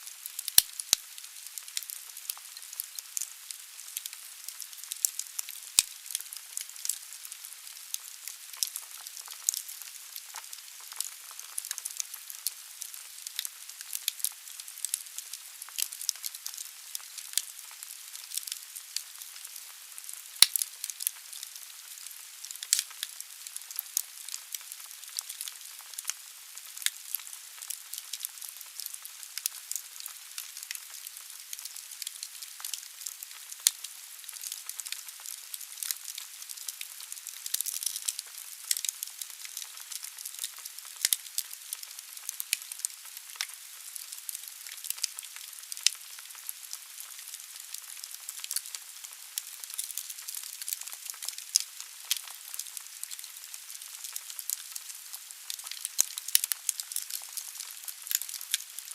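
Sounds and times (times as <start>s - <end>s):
fire hissing and crackling: 0.0s - 58.9s.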